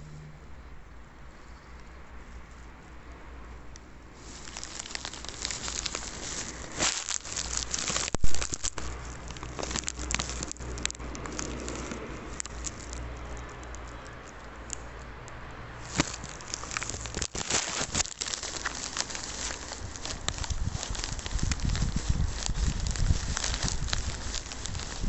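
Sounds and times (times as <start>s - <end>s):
phone crackling and clicking: 4.4s - 25.0s.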